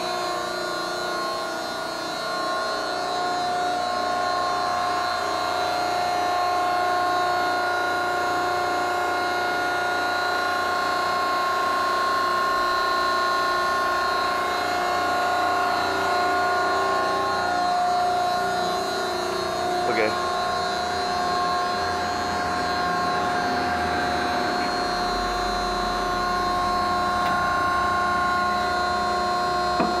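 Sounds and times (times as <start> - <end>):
hydraulic pump motor whine: 0.0 - 30.0.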